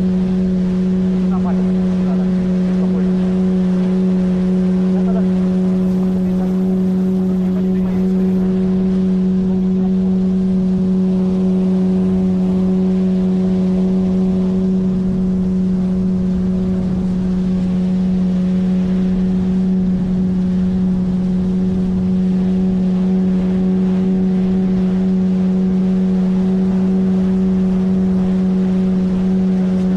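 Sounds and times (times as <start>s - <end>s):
outboard motor droning: 0.0s - 29.9s.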